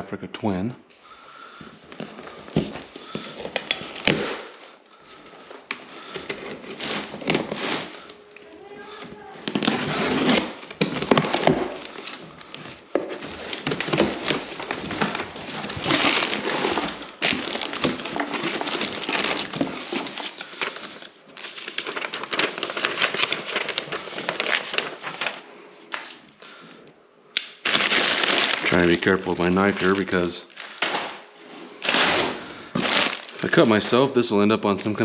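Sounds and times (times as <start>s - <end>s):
plastic air pillows crinkling: 1.0s - 26.6s, 27.6s - 35.0s
cardboard tearing and rustling: 1.8s - 26.1s, 27.6s - 34.0s.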